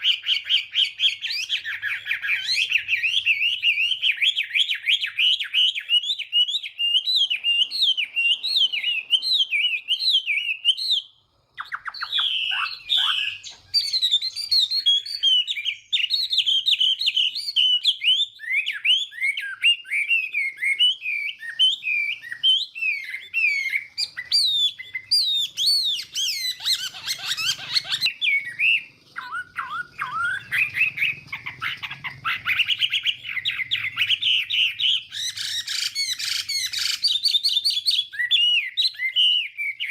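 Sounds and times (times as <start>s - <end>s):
bird whistling varied phrases: 0.0s - 39.9s.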